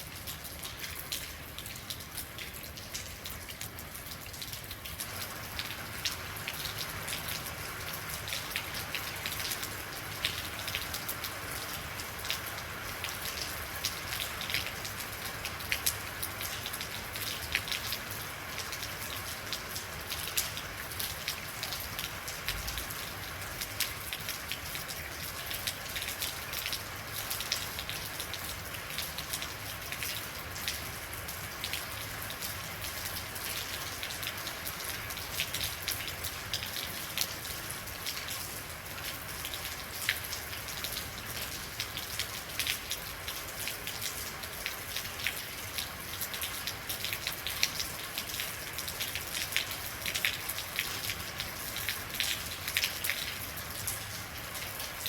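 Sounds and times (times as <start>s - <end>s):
raindrops pattering on hard surface: 0.0s - 55.0s.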